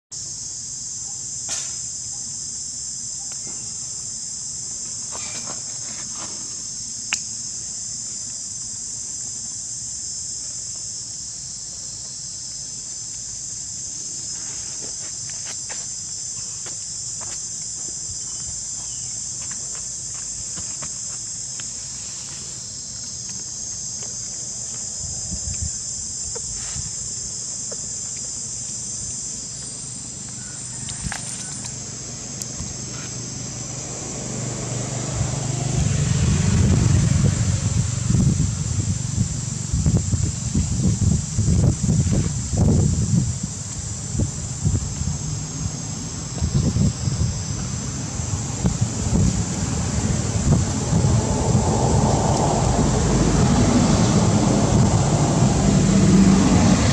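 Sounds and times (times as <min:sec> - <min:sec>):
high-pitched insect chorus: 0:00.1 - 0:56.9.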